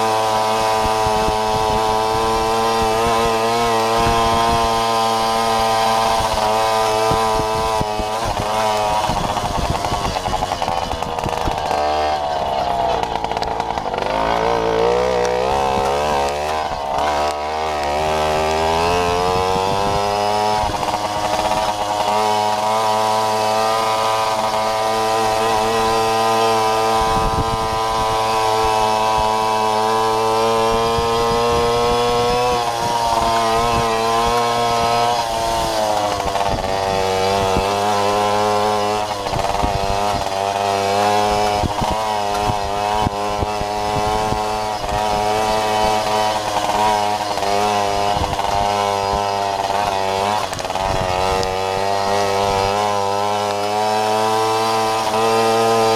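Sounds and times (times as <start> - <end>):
moped engine revving: 0.0 - 55.9.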